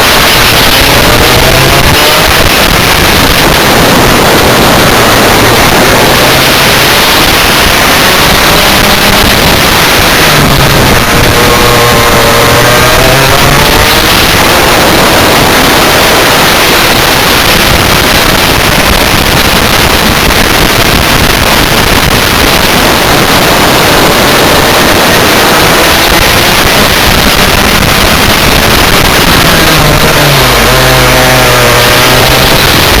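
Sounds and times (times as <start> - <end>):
kart engine running: 0.0 - 33.0
rush of noise: 0.0 - 33.0.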